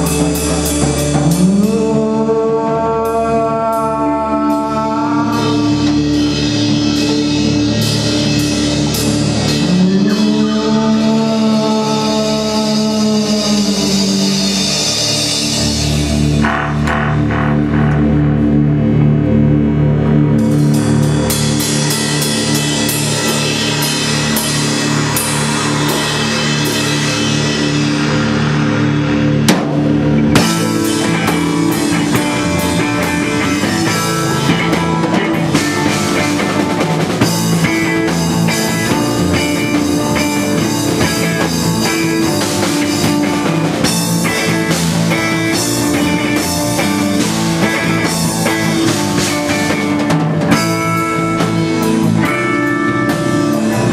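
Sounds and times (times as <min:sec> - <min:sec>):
drum kit: 0:00.0 - 0:53.9
guitar: 0:00.0 - 0:53.9
held chords: 0:00.0 - 0:53.9.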